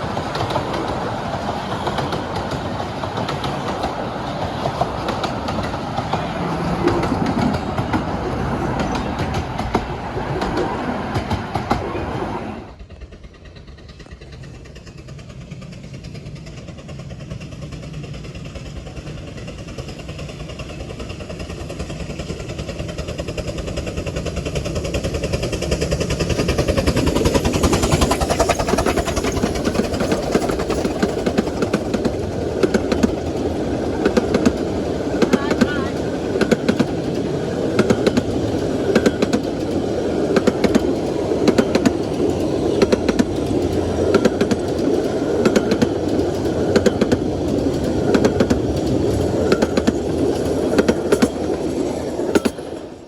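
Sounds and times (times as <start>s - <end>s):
loud train sound: 0.0s - 53.0s
miniature train approaching: 0.0s - 53.0s.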